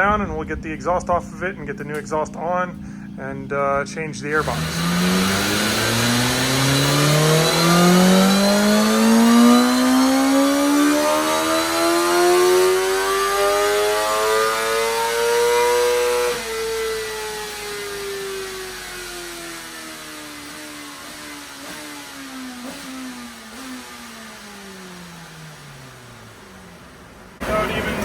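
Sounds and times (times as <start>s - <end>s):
motorcycle engine revving: 2.0s - 28.0s.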